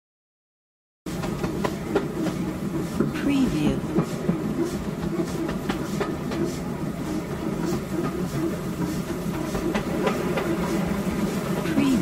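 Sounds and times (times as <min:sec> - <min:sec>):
steam train rumbling: 0:01.1 - 0:12.0.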